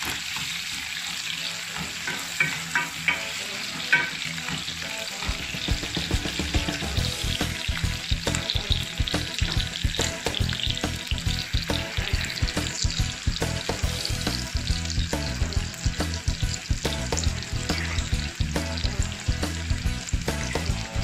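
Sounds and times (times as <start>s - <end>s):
onion sizzling in hot oil: 0.0s - 21.0s.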